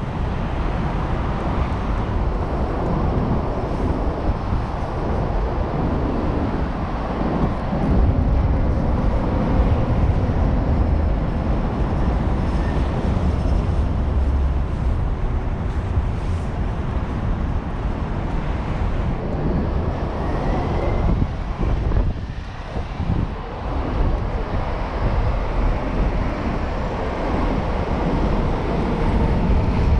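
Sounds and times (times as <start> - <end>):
road and traffic noise: 0.0 - 29.9
wind buffeting microphone: 0.0 - 29.9.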